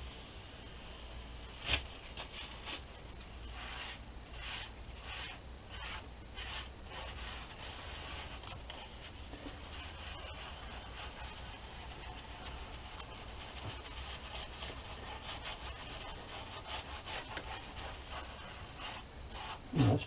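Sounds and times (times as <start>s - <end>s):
paper towel rubbing on board: 3.5s - 20.0s.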